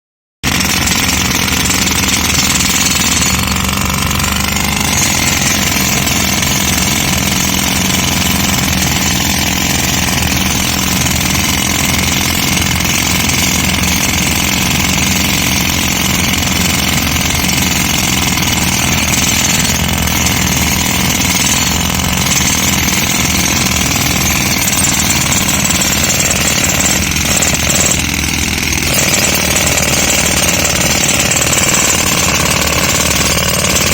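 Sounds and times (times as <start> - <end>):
jackhammer hammering concrete: 0.4 - 33.9.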